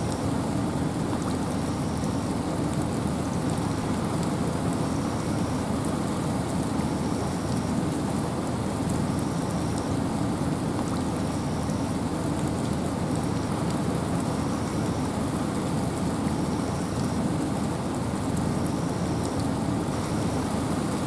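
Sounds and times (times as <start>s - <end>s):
rain and wind rushing: 0.0s - 21.0s
raindrops ticking: 0.0s - 21.0s.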